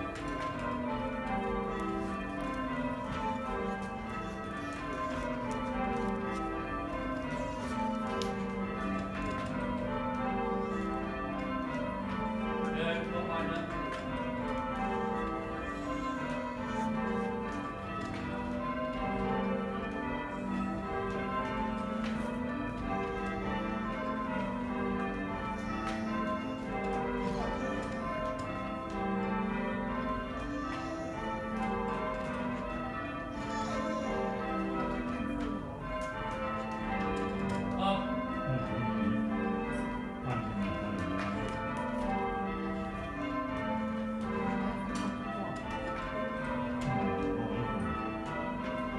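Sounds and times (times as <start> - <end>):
church bells ringing: 0.0 - 48.9.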